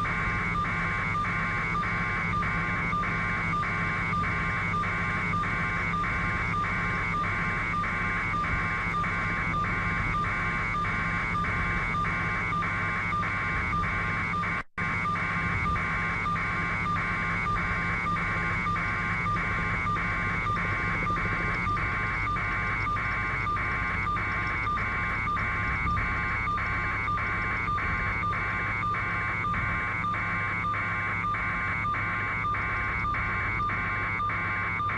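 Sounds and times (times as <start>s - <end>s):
helicopter cabin drone: 0.0s - 34.9s.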